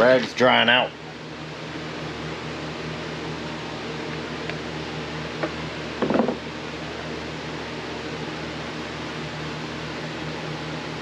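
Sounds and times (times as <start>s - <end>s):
fan-like hum and hiss: 0.0s - 11.0s.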